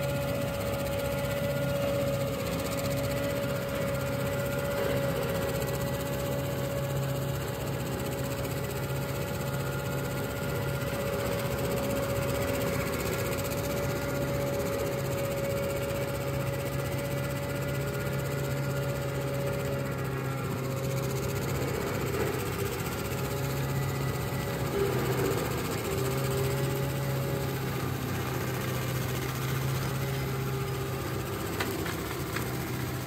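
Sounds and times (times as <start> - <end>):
diesel tractor engine running: 0.0 - 33.0
flail mower whine: 0.0 - 33.0.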